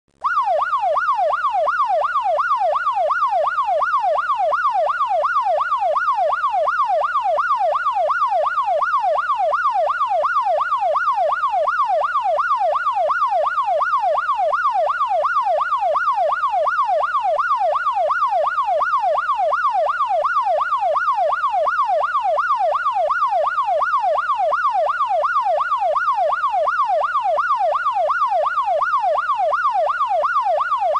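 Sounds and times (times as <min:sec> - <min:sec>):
police siren yelping: 0:00.2 - 0:30.9.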